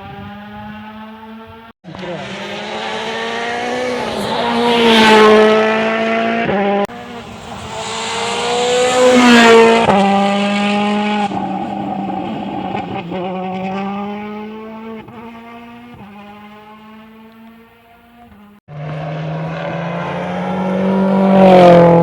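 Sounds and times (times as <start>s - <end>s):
rally car engine passing at speed: 0.0s - 22.0s.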